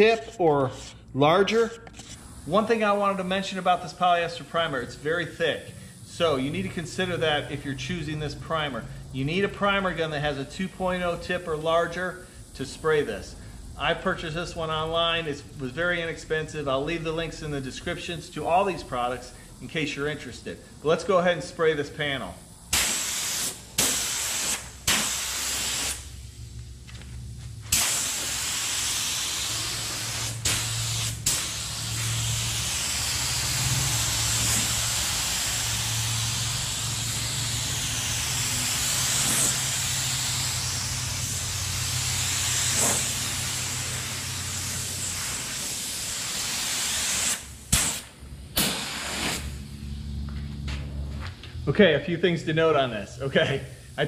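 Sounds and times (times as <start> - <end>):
spray gun hissing: 2.0 - 20.5, 22.2 - 26.5, 27.6 - 49.7.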